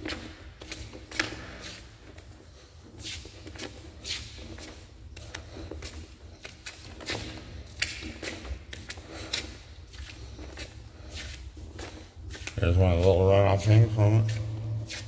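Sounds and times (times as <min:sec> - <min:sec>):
footsteps scuffing on concrete: 0:00.0 - 0:15.0.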